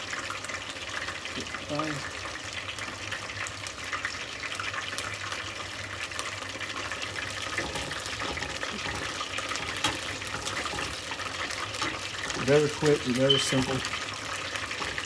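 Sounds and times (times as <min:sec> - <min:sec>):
food frying in hot oil: 0:00.0 - 0:15.0.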